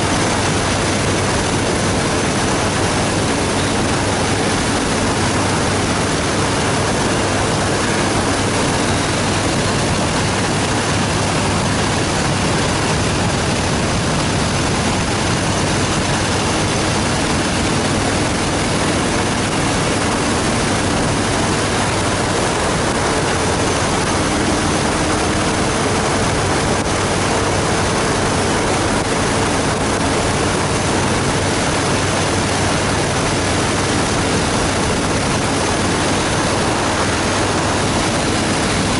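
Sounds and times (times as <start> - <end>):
motorcycle engine droning: 0.0 - 38.9
wind rush on microphone: 0.0 - 38.9.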